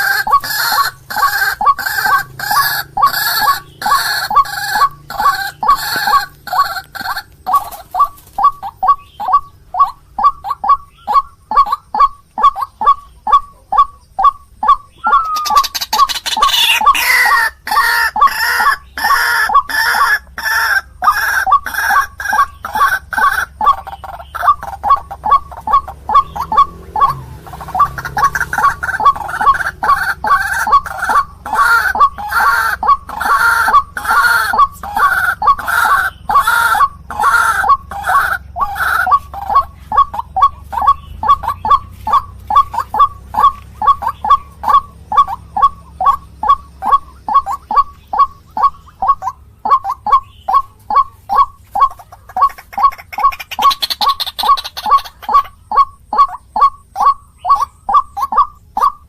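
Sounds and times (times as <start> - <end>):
waterhen clucking calls: 0.0 - 59.0.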